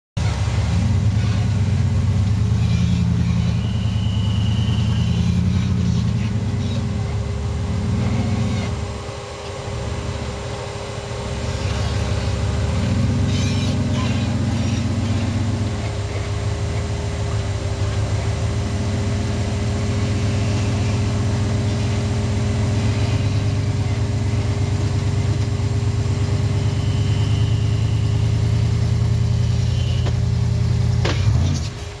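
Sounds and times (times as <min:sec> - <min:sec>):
engine running at low revs: 0:00.2 - 0:32.0.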